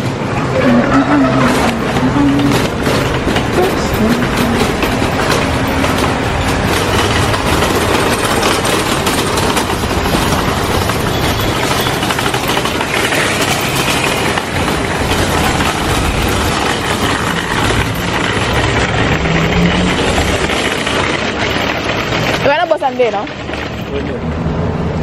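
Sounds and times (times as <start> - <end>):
shopping cart wheels rattling: 0.0 - 24.4.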